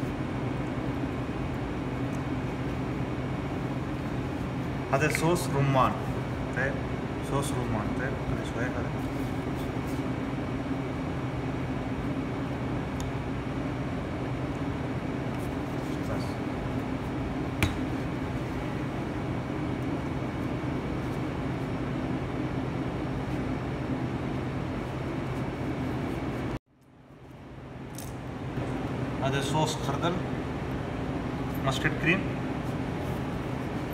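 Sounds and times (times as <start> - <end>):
ventilation fan humming: 0.0 - 33.9.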